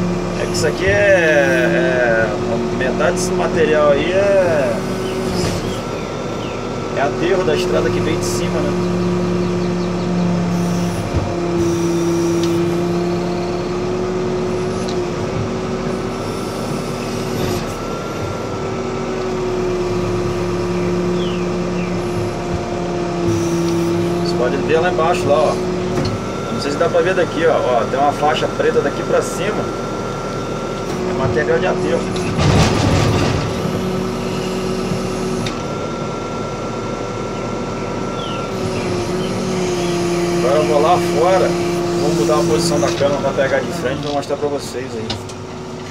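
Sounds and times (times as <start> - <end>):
diesel engine running: 0.0 - 45.9
hydraulic digging arm moving: 0.0 - 45.9.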